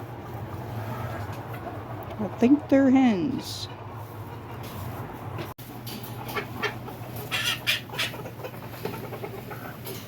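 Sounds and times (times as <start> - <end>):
chickens clucking and peeping: 0.0 - 2.6, 3.2 - 10.0.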